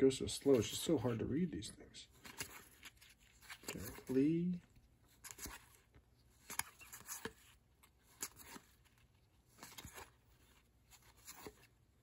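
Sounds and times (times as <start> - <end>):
cards sliding and clicking: 0.4 - 1.2, 2.1 - 11.9.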